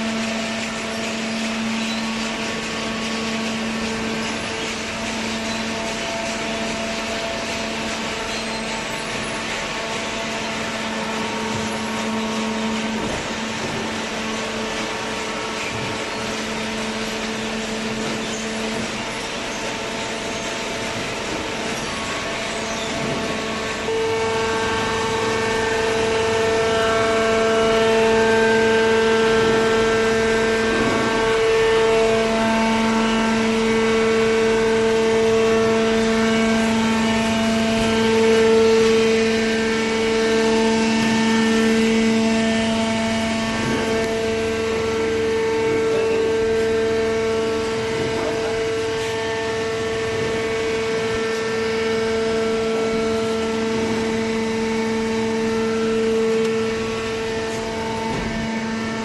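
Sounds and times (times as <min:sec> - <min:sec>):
hydraulic power unit whine and hum: 0:00.0 - 0:59.0.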